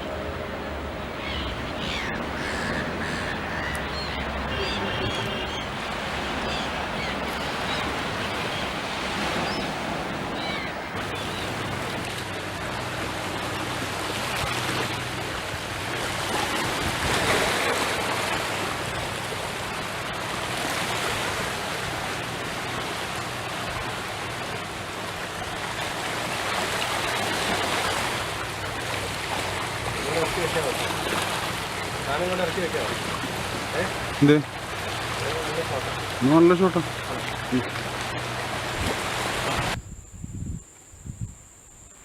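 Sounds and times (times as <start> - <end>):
flowing water rushing: 0.0 - 39.8.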